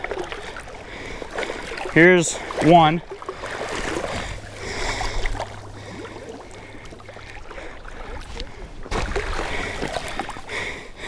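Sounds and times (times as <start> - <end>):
hand dipping into water: 0.0 - 10.5
water sloshing and splashing: 0.0 - 11.0.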